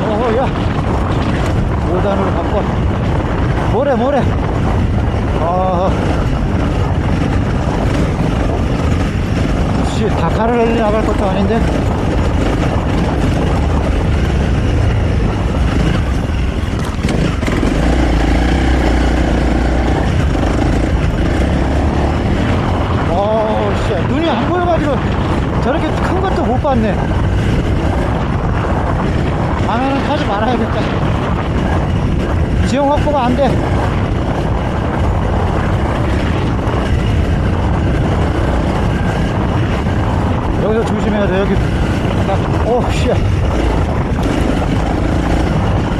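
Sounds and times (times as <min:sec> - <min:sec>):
constant rushing noise: 0:00.0 - 0:45.9
ground noise: 0:00.0 - 0:45.9
heavy wind noise: 0:00.0 - 0:45.9
motorcycle engine running: 0:00.0 - 0:45.9.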